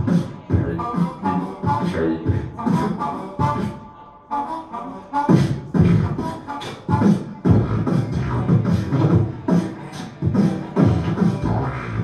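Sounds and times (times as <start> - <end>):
person beatboxing: 0.0 - 12.0.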